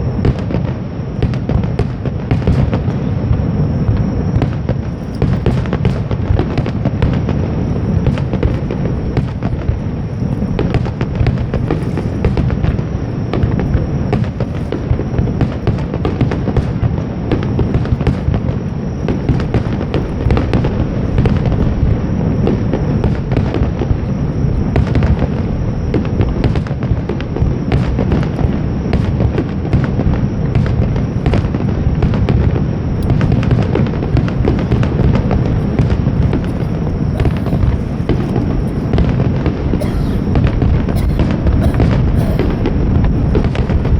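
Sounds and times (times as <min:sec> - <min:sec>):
aerial fireworks bursting: 0:00.0 - 0:43.9.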